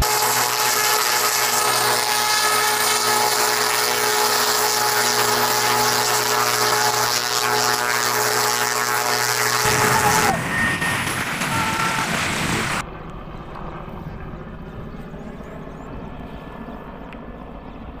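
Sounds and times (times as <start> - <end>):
helicopter hovering with high whine: 0.0 - 18.0.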